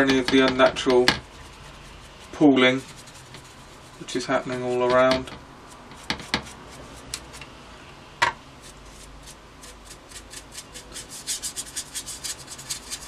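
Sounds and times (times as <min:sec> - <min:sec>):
brush scrubbing on plastic: 0:00.0 - 0:07.4, 0:08.6 - 0:13.0.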